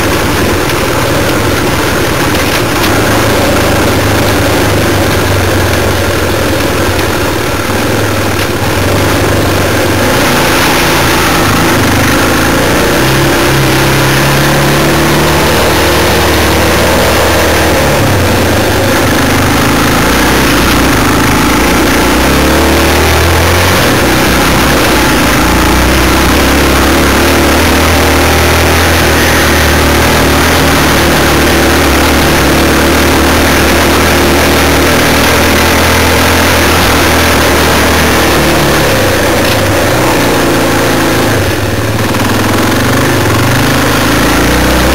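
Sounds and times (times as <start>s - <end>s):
motorcycle engine revving: 0.0s - 44.9s
rattle over rough track: 0.0s - 44.9s.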